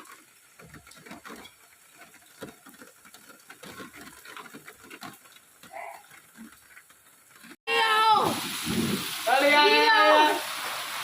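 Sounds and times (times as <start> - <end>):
rain drops pattering: 0.0 - 11.0
steady rain hiss: 0.0 - 11.0.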